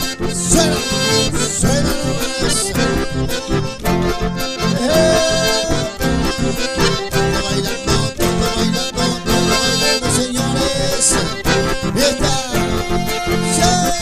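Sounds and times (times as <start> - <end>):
button accordions playing: 0.0 - 14.0
strummed acoustic guitar: 0.0 - 14.0.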